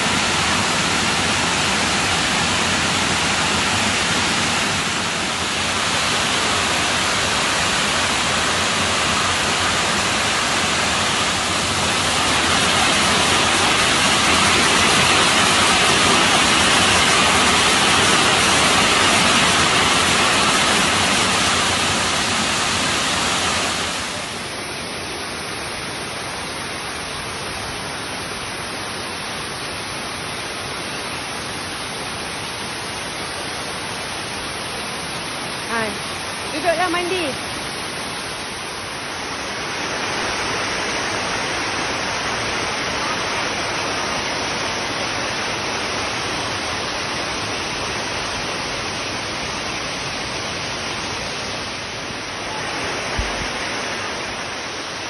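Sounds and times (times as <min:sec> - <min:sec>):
water rushing over cascades: 0:00.0 - 0:55.0.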